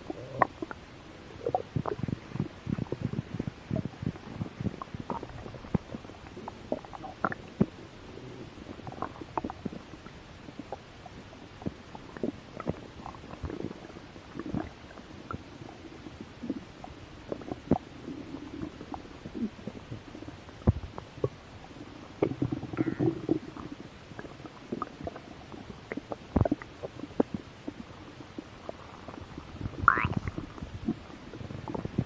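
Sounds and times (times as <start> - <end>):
stomach growling: 0.0 - 21.4, 22.2 - 32.0.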